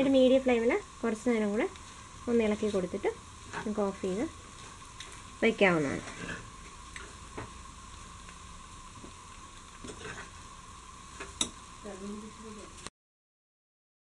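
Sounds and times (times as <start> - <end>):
meat sizzling in frying pan: 0.0 - 12.9.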